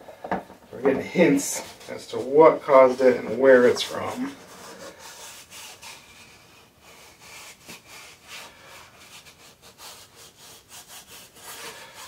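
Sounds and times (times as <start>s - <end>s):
fingers rubbing on a bicycle tire: 1.2s - 12.0s.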